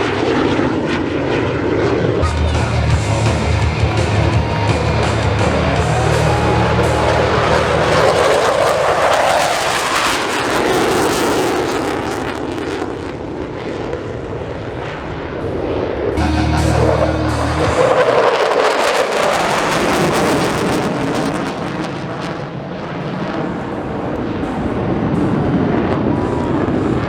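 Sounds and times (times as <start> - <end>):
jet aircraft passing: 0.0 - 27.0.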